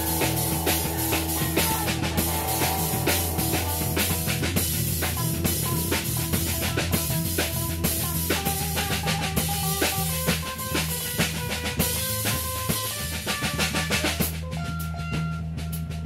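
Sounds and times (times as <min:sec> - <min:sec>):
bass line: 0:00.0 - 0:16.0
drum kit steady beat: 0:00.0 - 0:16.0.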